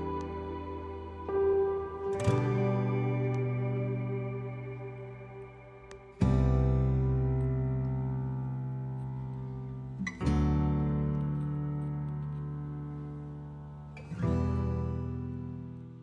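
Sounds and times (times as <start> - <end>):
slow acoustic guitar chords: 0.0 - 16.0.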